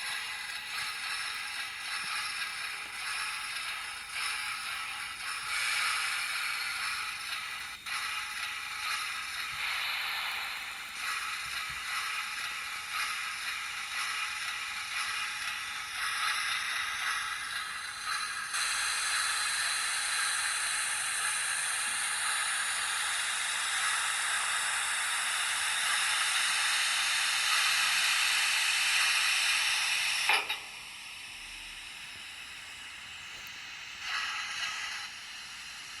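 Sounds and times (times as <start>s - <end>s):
steam hiss from small speaker: 0.0s - 36.0s.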